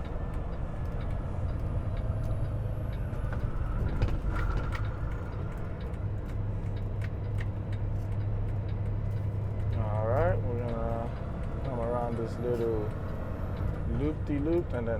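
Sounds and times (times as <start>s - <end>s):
diesel truck engine drone: 0.0s - 14.9s
light rattles and ticks: 0.0s - 14.9s
road noise: 0.0s - 14.9s.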